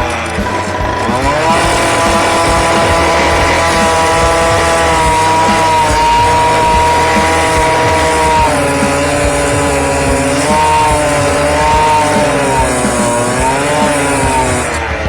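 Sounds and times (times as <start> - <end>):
low beat: 0.0 - 15.0
sliding held notes: 0.0 - 15.0.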